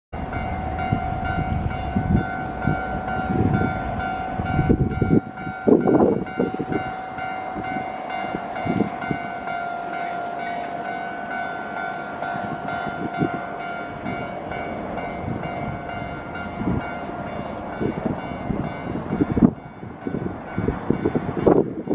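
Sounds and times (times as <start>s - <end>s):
level crossing warning bell: 0.2s - 21.9s
train rumbling on rails: 0.2s - 21.9s.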